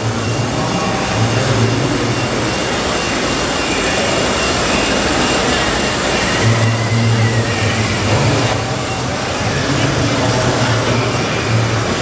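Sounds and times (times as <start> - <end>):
faint wavering whine: 0.0 - 12.0
low engine-like mechanical hum: 0.0 - 12.0.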